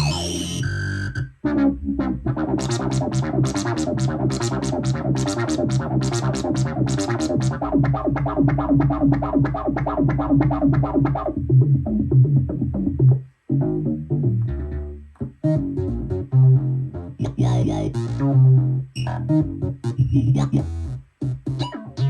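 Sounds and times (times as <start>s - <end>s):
bass line: 0.0s - 22.0s
synthesizer electronic pattern: 0.0s - 22.0s.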